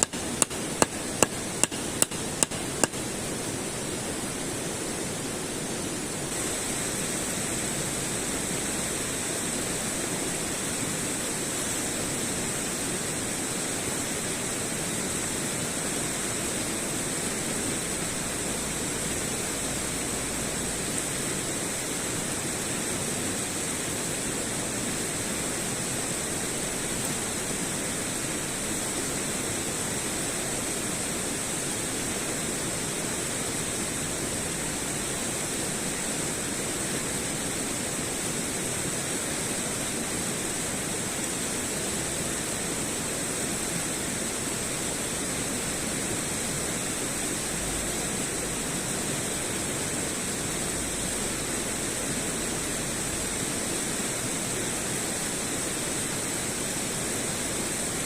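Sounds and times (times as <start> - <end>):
steady rushing noise: 0.0 - 53.4
constant high hiss: 0.0 - 58.0.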